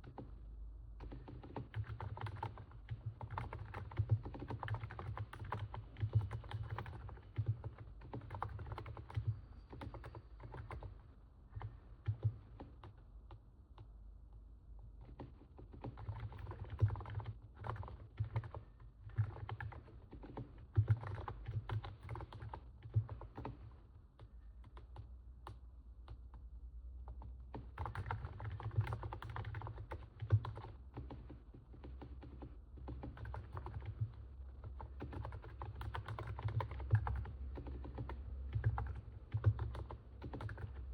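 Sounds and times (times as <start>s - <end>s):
keyboard typing: 0.0s - 0.4s, 1.0s - 14.0s, 14.9s - 40.9s.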